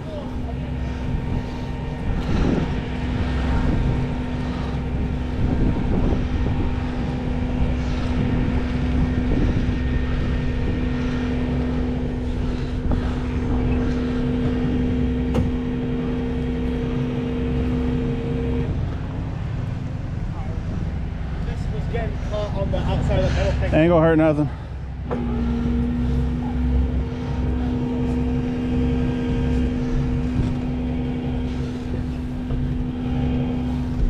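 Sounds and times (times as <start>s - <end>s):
truck engine rumbling: 0.0s - 34.0s
winch humming: 0.0s - 34.0s.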